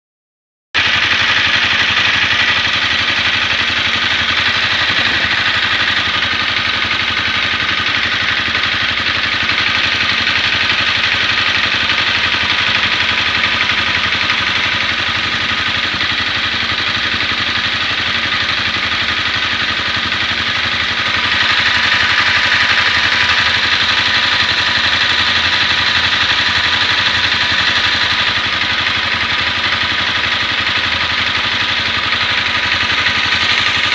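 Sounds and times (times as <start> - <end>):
motorcycle engine idling: 0.8 - 33.9.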